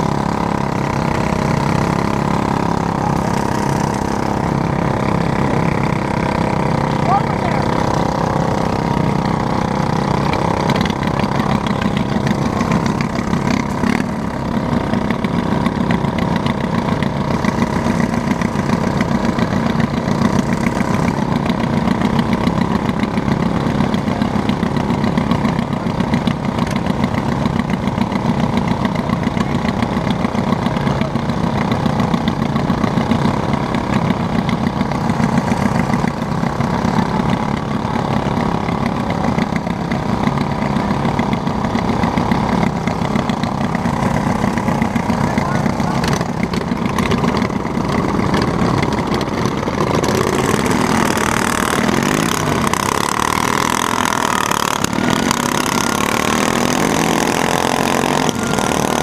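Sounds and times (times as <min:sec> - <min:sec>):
lawn mower engines idling: 0:00.0 - 0:59.0.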